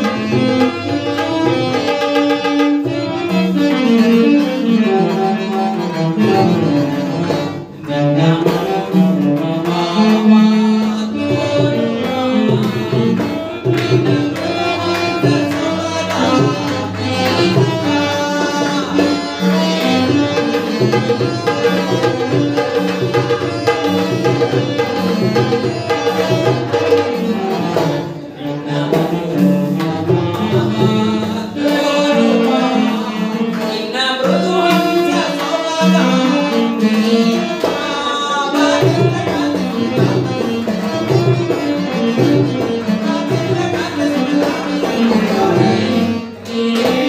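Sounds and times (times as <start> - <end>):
devotional song singing: 0.0 - 47.0.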